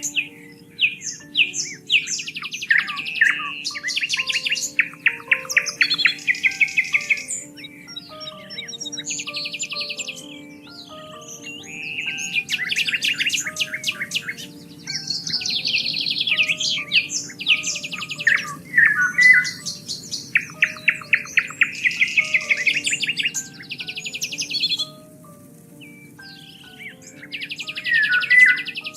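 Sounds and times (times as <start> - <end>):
soft background music: 0.0 - 28.9
songbirds singing: 0.0 - 28.9.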